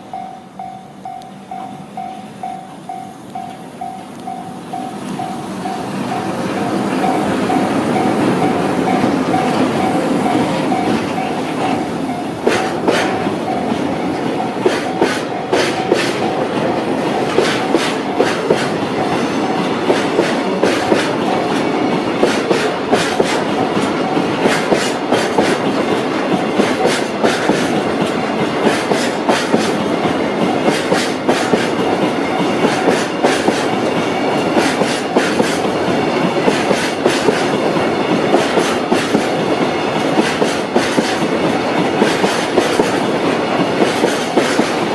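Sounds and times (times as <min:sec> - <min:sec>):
train wheels clacking over rail joints: 0:01.5 - 0:44.9.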